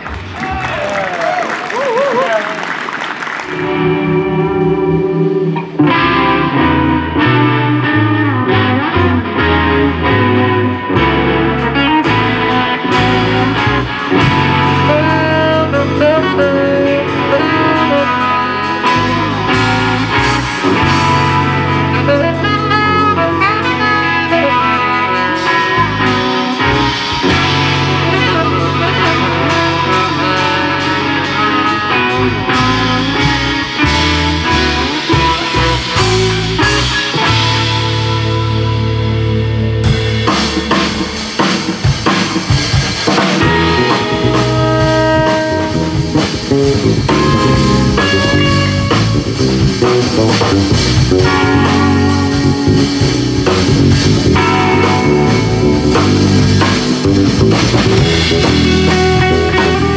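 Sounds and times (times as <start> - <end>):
drum kit: 0.0 - 59.9
guitar: 0.0 - 59.9
bass notes: 3.4 - 59.9
saxophone melody: 3.5 - 59.9.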